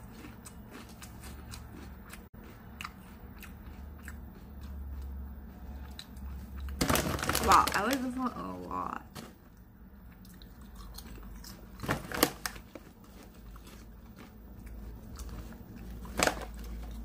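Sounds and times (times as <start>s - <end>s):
person chewing crunchy snack: 0.0s - 6.8s, 10.1s - 17.0s.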